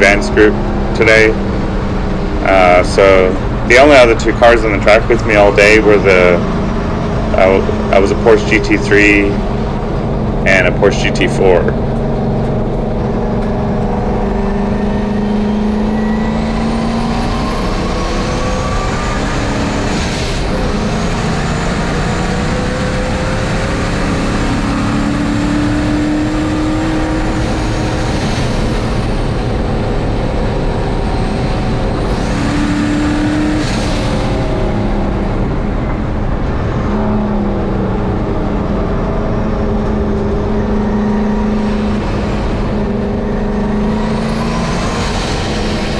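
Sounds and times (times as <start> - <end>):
high turbo whine: 0.0 - 45.9
race truck engine running hard: 0.0 - 45.9.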